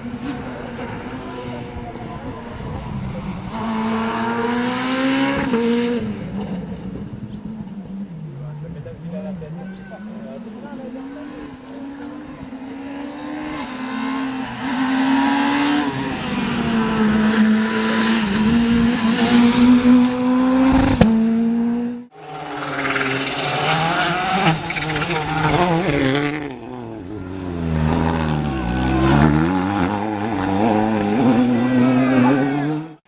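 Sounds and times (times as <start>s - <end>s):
rally car engine at high revs: 0.0s - 7.4s, 10.6s - 33.0s.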